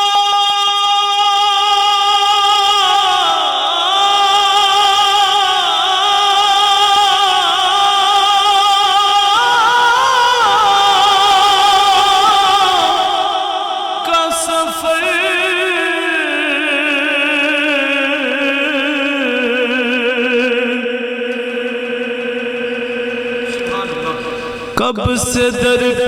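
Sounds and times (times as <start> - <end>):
man singing melismatic recitation: 0.0 - 26.0.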